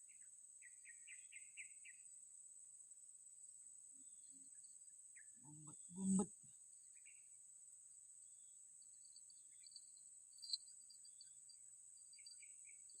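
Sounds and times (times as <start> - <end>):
crickets droning and chirping: 0.0 - 13.0.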